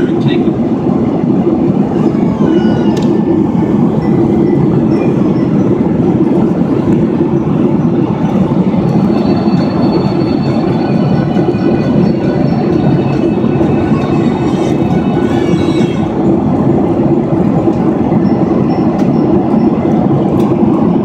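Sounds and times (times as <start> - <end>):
jet airliner cabin roar: 0.0 - 21.0.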